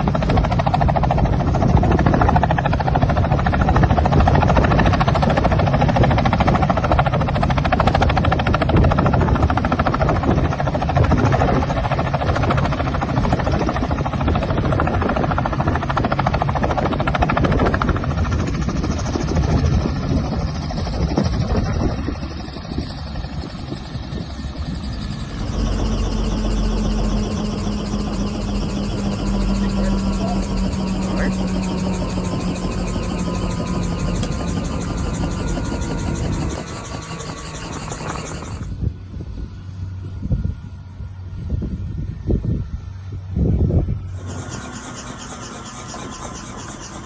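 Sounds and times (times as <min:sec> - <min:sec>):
helicopter engine noise: 0:00.0 - 0:47.0
helicopter rotor beat: 0:00.0 - 0:47.0.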